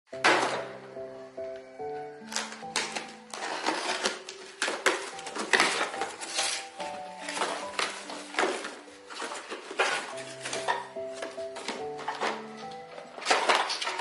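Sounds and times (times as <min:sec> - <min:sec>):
soft background music: 0:00.1 - 0:14.0
hard objects clattering and knocking: 0:00.2 - 0:00.8, 0:02.3 - 0:14.0.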